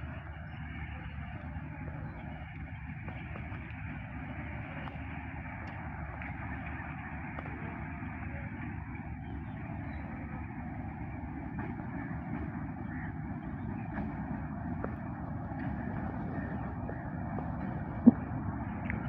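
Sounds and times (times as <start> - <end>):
distant diesel locomotive running: 0.0 - 19.0.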